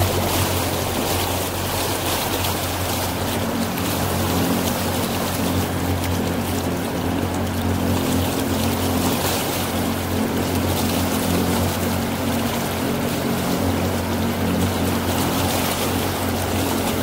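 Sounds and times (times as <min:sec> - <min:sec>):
motorboat engine humming: 0:00.0 - 0:17.0
water rushing along hull: 0:00.0 - 0:17.0.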